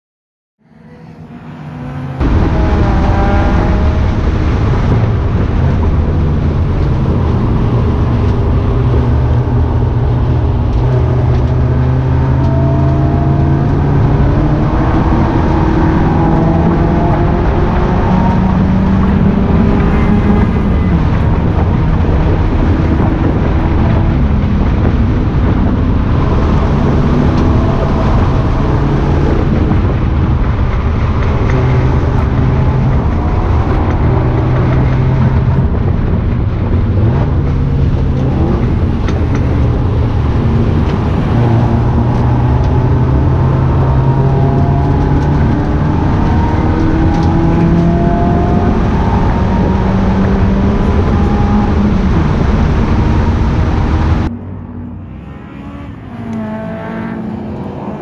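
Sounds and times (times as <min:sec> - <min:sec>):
car engine revving through gears: 0:00.6 - 0:58.0.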